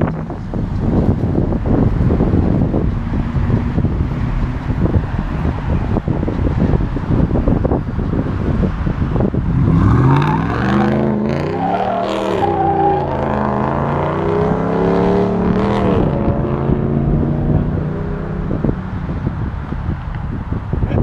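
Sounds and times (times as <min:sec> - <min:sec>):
car engine revving and accelerating: 0:00.0 - 0:20.1.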